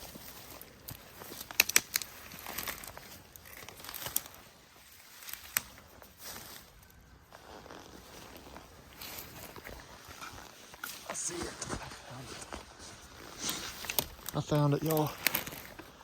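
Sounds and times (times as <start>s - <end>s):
twigs snapping: 0.0s - 7.0s, 7.8s - 16.0s
footsteps through dry forest litter: 0.0s - 16.0s.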